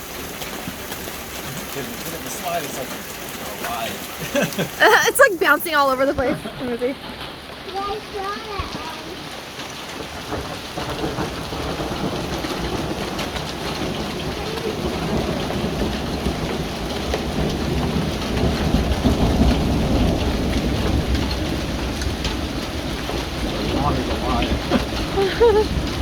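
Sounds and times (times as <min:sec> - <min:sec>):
hail pelting hard surfaces: 0:00.0 - 0:26.0.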